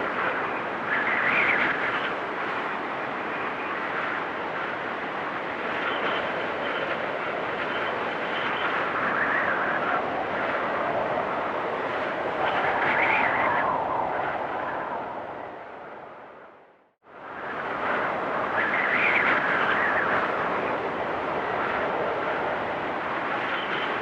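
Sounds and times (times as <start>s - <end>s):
storm wind blowing hard: 0.0s - 24.0s.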